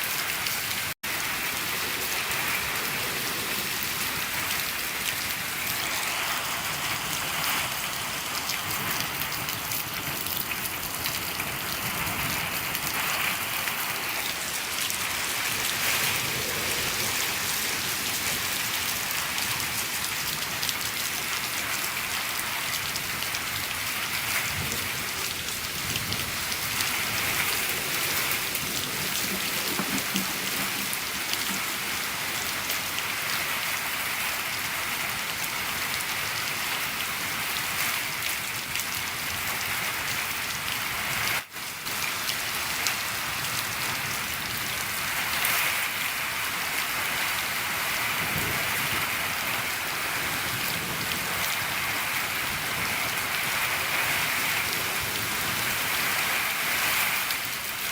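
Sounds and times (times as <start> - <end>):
rain on a shed: 0.0 - 57.9.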